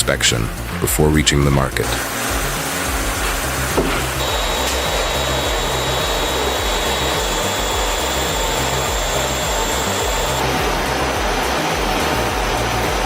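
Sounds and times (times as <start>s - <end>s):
background music with bass line: 0.0s - 13.0s
woodworking machine running: 1.9s - 13.0s.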